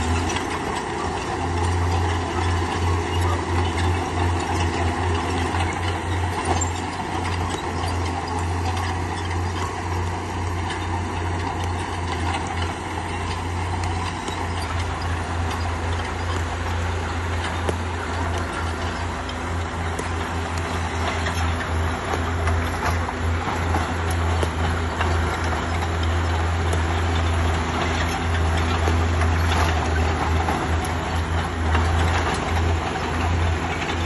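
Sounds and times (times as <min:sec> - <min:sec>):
bulldozer diesel engine droning: 0:00.0 - 0:34.0
metallic clanking and rattling: 0:00.0 - 0:34.0.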